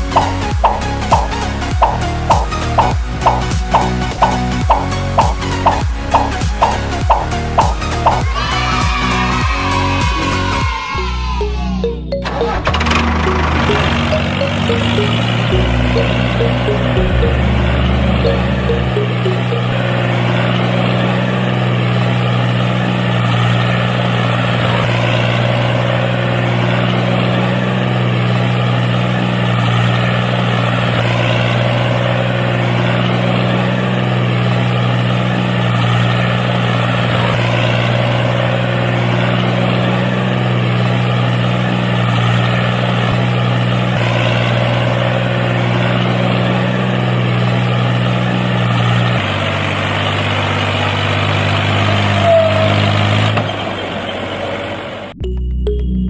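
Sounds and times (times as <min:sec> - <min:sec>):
tractor engine running: 0:00.0 - 0:09.4, 0:11.4 - 0:56.0.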